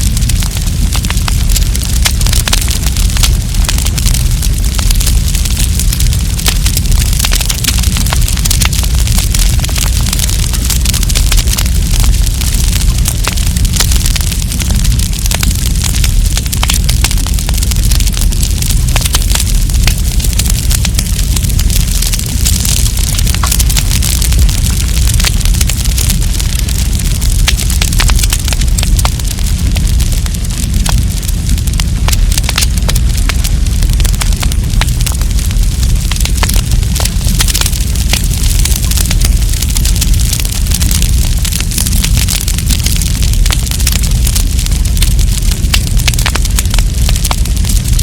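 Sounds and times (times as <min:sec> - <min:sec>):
campfire crackling and popping: 0:00.0 - 0:48.0
low rumble of flames: 0:00.0 - 0:48.0.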